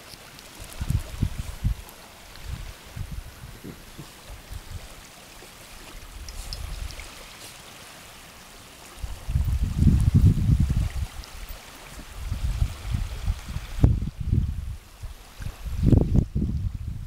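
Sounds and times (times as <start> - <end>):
wind buffeting microphone: 0.6 - 5.1, 5.7 - 7.2, 9.0 - 17.0.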